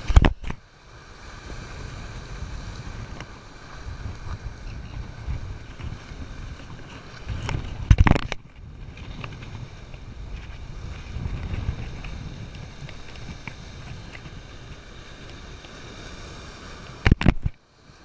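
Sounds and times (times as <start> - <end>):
surf washing against rocks: 0.0 - 18.0
wind buffeting microphone: 1.2 - 17.5.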